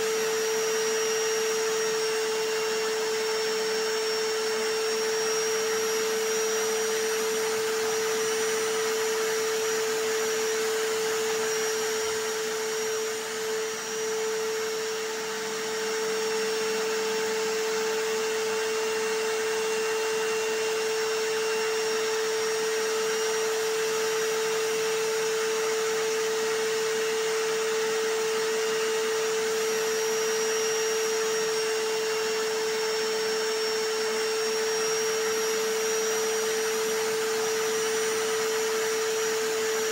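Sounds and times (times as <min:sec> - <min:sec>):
hammer drill: 0:00.0 - 0:39.9
vacuum cleaner: 0:00.0 - 0:39.9.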